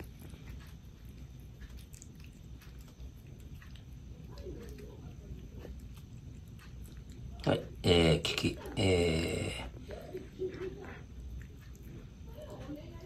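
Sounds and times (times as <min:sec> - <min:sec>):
kitten chewing food: 0:00.0 - 0:13.0.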